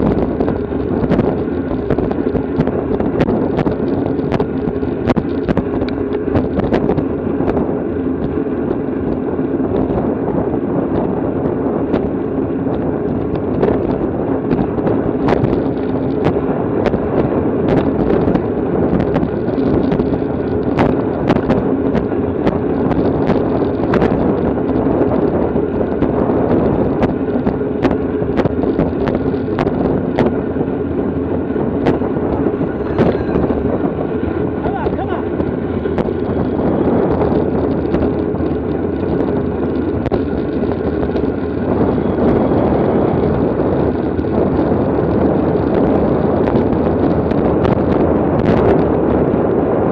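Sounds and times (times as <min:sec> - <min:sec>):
wind noise on microphone: 0:00.0 - 0:49.9.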